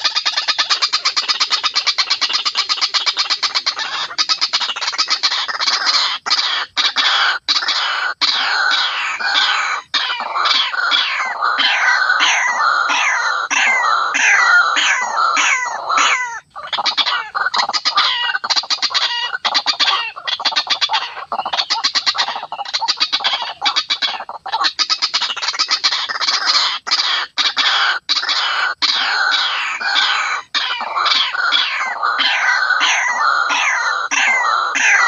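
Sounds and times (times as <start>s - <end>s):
waterhens calling: 0.0s - 35.0s.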